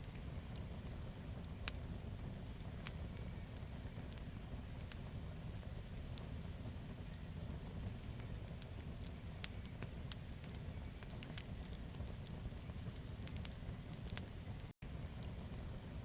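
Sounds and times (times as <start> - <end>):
campfire crackling: 0.0 - 16.0
low rush of flames: 0.0 - 16.0.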